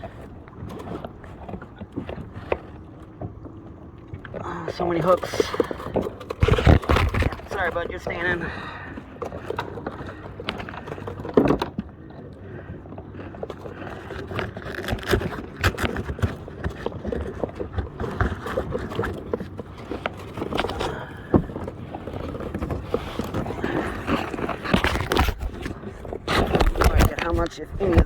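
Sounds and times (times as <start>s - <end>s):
knocks and scrapes on plastic kayak: 0.0s - 3.5s, 4.7s - 11.9s, 13.1s - 28.0s.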